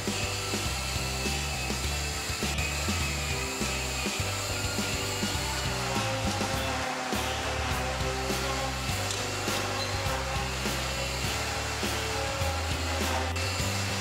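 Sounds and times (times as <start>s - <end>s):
upbeat music with bass line: 0.0s - 14.0s.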